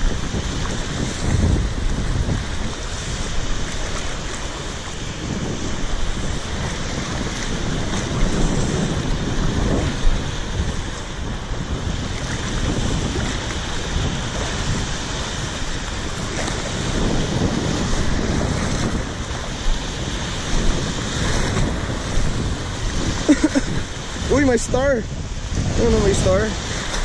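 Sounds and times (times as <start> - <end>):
surf waves breaking on rocks: 0.0 - 27.0
wind rumbling on microphone: 0.0 - 27.0.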